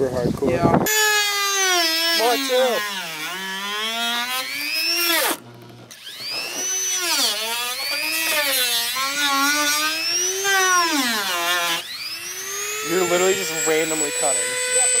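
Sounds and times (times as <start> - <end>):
rotary tool whining: 0.9 - 15.0.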